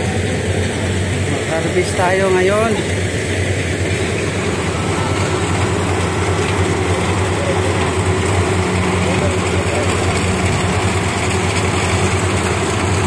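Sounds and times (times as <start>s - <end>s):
combine harvester engine humming: 0.0s - 13.0s.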